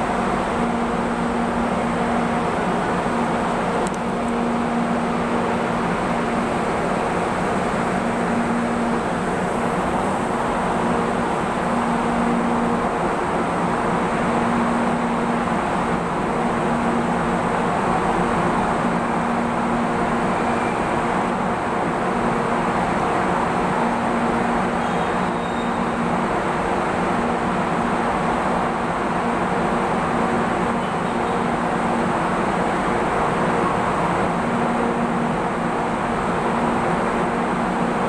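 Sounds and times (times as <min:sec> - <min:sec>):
standing train hum and rumble: 0:00.0 - 0:38.0.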